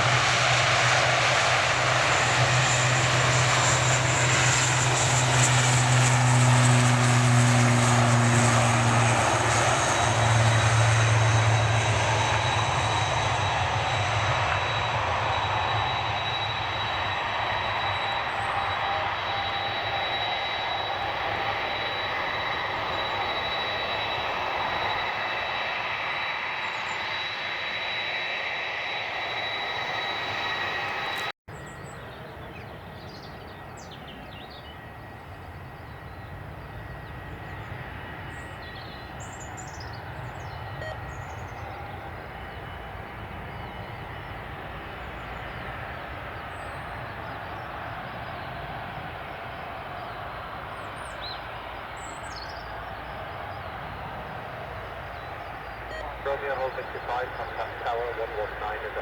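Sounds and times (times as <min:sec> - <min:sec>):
aircraft rumble: 0:00.0 - 0:59.0
jet engines roaring with whine: 0:00.0 - 0:59.0.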